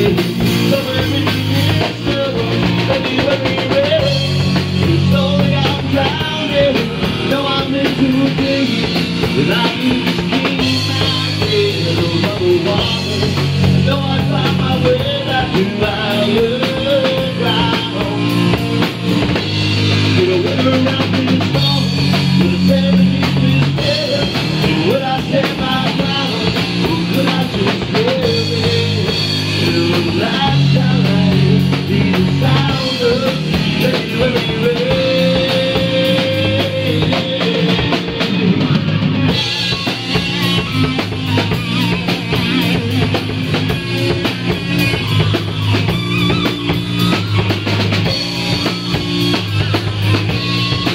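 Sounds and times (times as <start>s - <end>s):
bass guitar: 0.0s - 50.9s
drum kit: 0.0s - 50.9s
electric guitar: 0.0s - 50.9s
man singing lead vocal: 0.0s - 50.9s.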